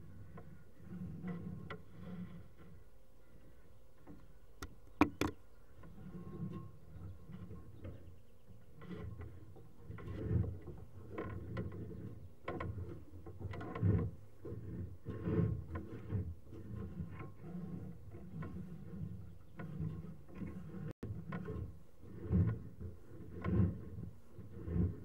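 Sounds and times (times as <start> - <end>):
camera knocking and scraping in pipe: 4.0 - 8.0, 8.6 - 25.0.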